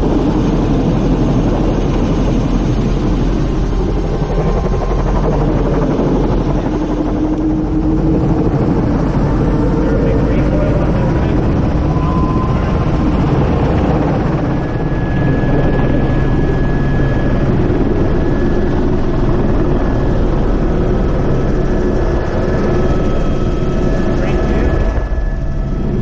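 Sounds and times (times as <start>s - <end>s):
helicopter rotor: 0.0s - 26.0s
high turbine whine: 0.0s - 26.0s.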